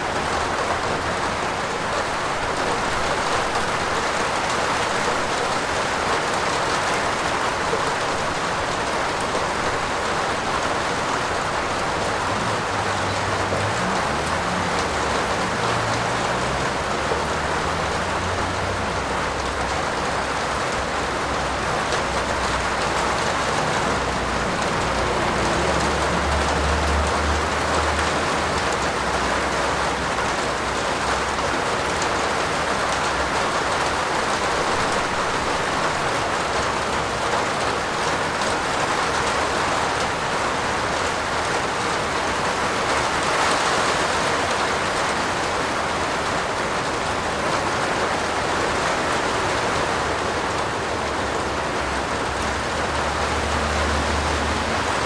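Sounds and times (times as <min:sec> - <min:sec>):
rain on a roof: 0:00.0 - 0:55.0.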